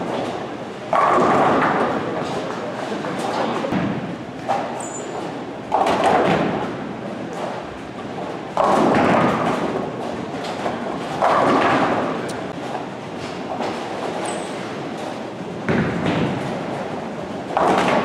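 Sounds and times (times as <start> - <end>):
bowling alley din: 0.0 - 18.0
bowling pins clattering: 0.0 - 18.0.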